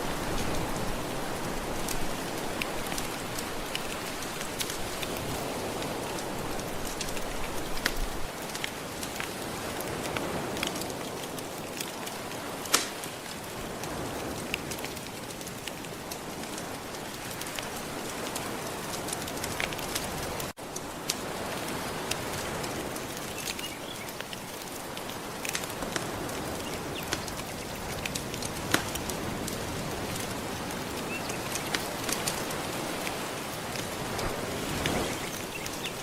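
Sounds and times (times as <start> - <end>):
gentle ocean waves: 0.0 - 36.0
wood fire crackling and popping: 0.1 - 36.0.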